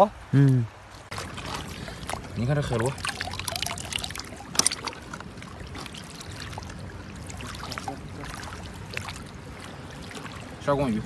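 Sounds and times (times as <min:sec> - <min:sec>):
seawater splashing and trickling: 0:00.8 - 0:11.0
sharp water splash: 0:01.1 - 0:11.0.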